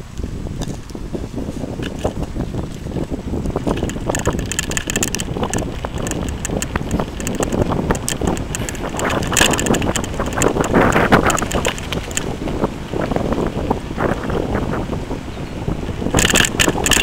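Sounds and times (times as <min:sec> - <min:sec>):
bike rattling clicks: 0:00.0 - 0:14.9, 0:15.8 - 0:17.0
wind rushing over microphone: 0:00.0 - 0:17.0.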